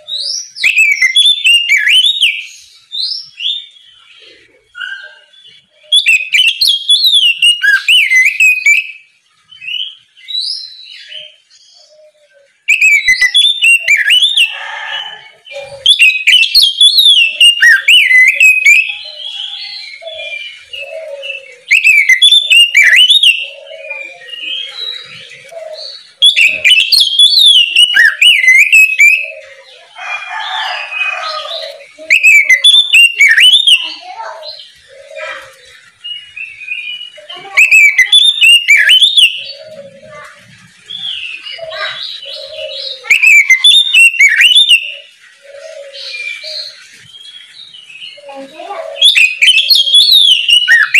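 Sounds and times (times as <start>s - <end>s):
songbird warbling whistles and trills: 0.0s - 50.9s.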